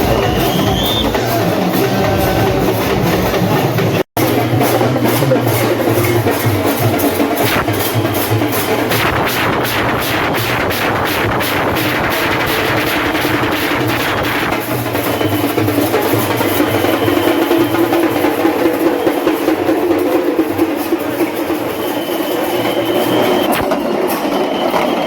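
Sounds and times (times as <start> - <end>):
drums and cymbals beat: 0.0 - 25.0.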